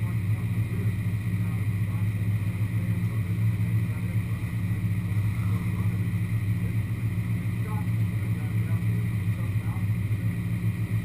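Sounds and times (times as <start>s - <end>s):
car engine idling low rumble: 0.0s - 11.0s.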